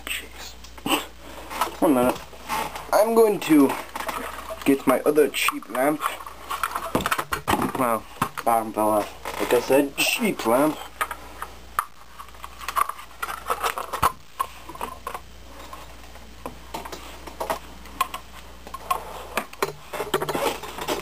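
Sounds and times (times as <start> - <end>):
plastic parts clicking and rattling: 1.5 - 15.8, 16.7 - 21.0.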